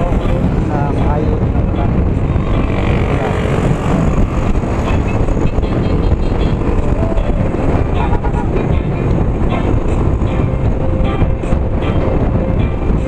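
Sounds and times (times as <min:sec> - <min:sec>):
motorcycle engine: 0:00.0 - 0:13.0
wind rush on microphone: 0:00.0 - 0:13.0.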